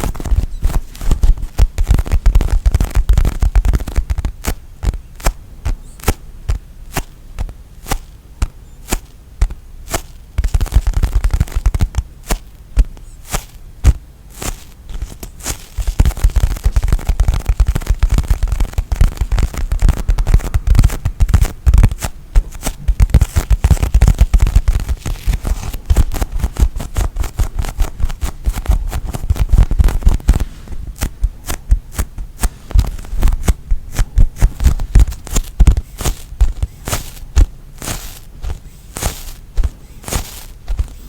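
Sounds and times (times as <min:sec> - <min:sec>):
foam toy being squeezed: 0:00.0 - 0:41.0.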